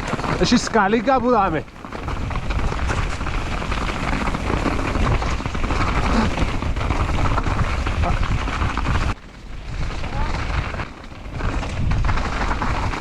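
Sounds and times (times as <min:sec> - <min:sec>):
bike rattling over rough trail: 0:00.0 - 0:13.0
wind buffeting microphone: 0:00.0 - 0:13.0.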